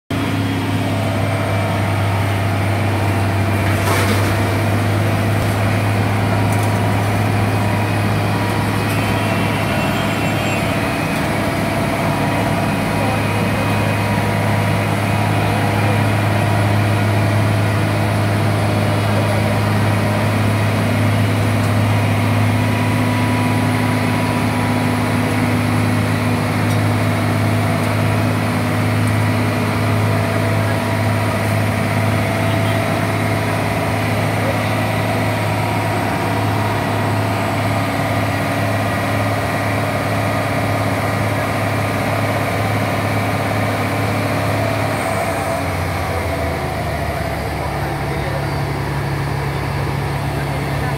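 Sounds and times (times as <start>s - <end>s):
diesel engine droning: 0.1s - 50.9s.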